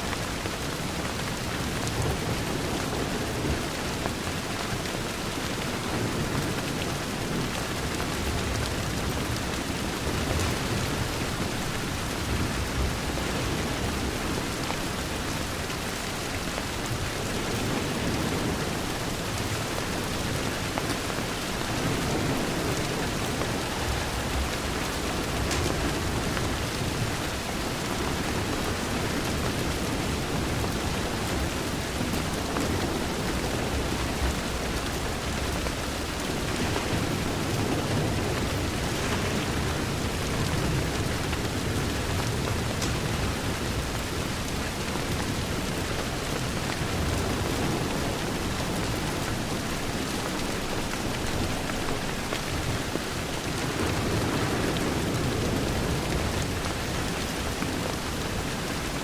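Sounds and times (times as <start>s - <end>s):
heavy rain against a window: 0.0s - 59.0s.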